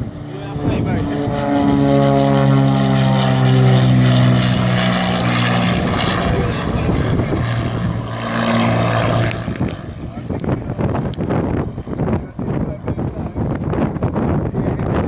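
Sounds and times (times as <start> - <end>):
turboprop aircraft propeller drone: 0.0 - 15.0.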